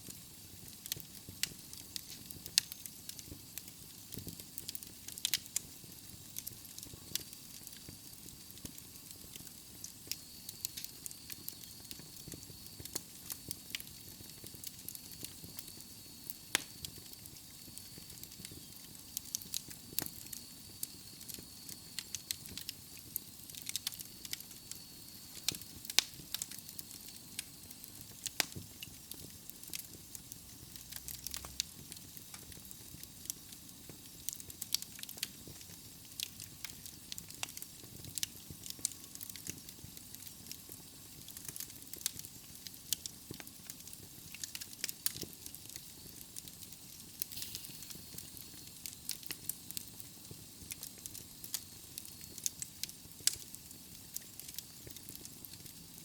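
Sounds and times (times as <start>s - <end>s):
fire hissing: 0.0s - 56.0s
logs crackling and popping: 0.1s - 56.0s.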